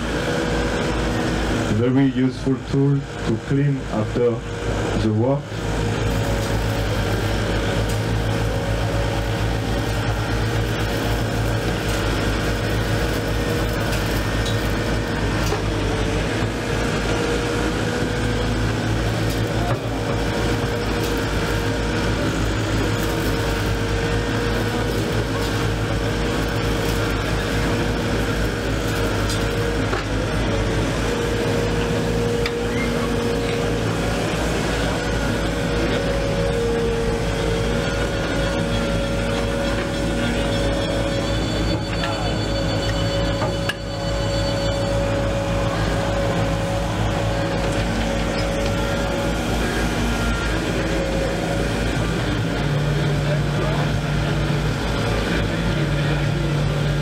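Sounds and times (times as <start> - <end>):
diesel engines running: 0.0 - 57.0
hydraulics working: 0.0 - 57.0
steady hum: 0.0 - 57.0.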